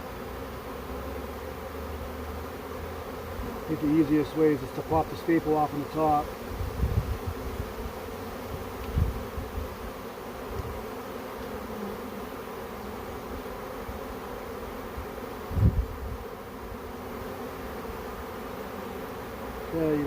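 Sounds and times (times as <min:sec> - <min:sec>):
bee swarm buzzing: 0:00.0 - 0:20.0.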